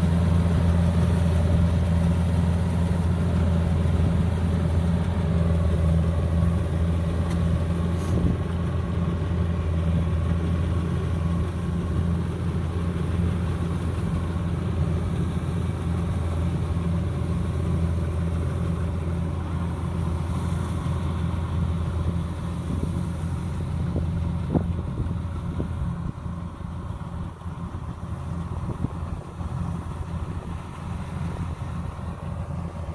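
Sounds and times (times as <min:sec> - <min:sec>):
combine harvester diesel engine droning: 0:00.0 - 0:32.9.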